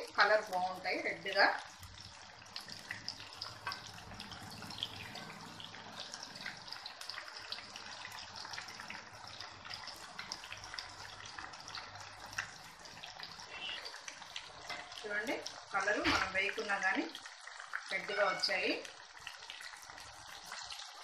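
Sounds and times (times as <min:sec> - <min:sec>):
chicken deep-frying in oil: 0:00.0 - 0:21.0
oil sizzling with crackles: 0:00.0 - 0:21.0.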